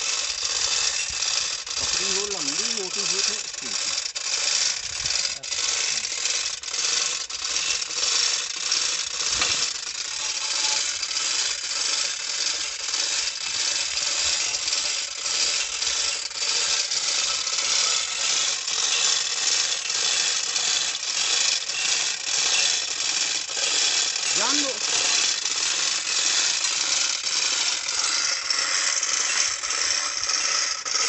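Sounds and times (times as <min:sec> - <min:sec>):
metal chain clinking and rattling: 0:00.1 - 0:31.0.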